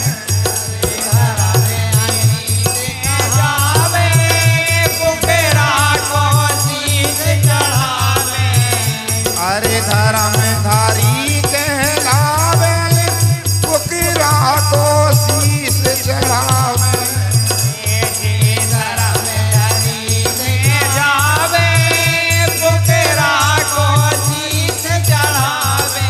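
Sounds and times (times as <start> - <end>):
dholak beat: 0.0 - 26.0
rattle-like percussion: 0.0 - 26.0.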